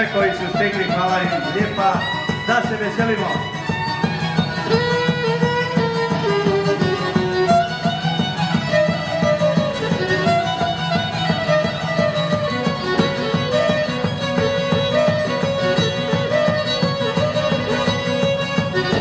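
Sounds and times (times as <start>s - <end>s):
lute strumming: 0.0s - 19.0s
violin melody: 0.0s - 19.0s.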